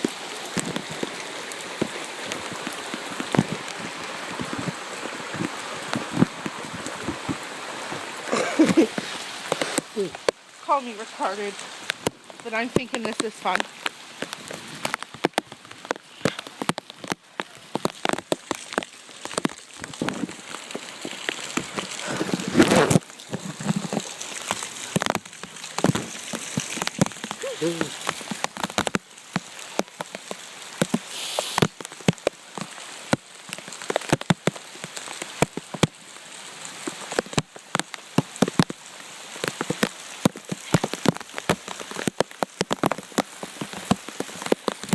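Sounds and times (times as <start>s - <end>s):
rain hiss: 0.0s - 44.9s
rain on plastic bag: 0.0s - 44.9s
rustle or splash: 0.0s - 44.9s.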